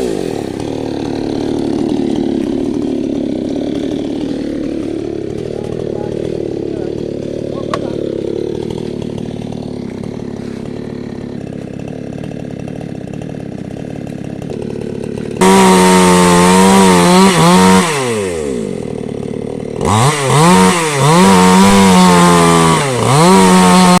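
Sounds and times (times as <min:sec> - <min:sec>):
chainsaw engine revving: 0:00.0 - 0:24.0.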